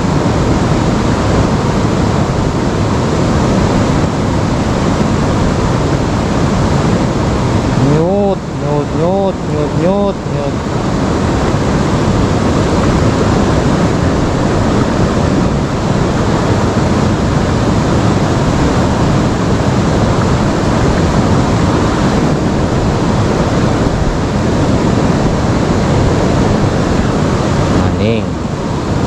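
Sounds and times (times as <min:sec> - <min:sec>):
river water rushing over stones: 0:00.0 - 0:29.0.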